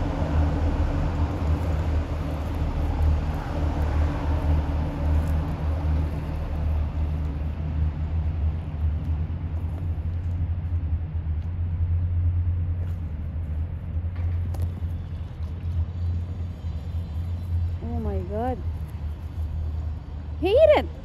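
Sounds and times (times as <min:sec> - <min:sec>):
faint hum: 0:00.0 - 0:21.0
low engine rumble: 0:00.0 - 0:21.0.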